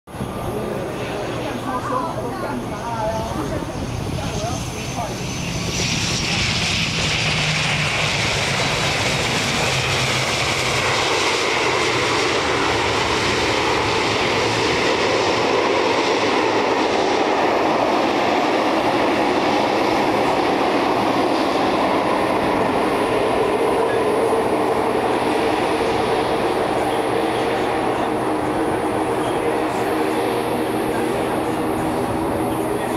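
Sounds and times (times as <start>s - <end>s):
turboprop engines roaring: 0.1s - 32.9s.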